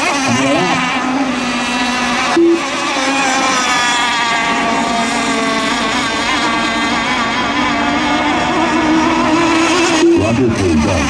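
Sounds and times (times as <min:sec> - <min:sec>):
model boat engines whining: 0:00.0 - 0:11.0.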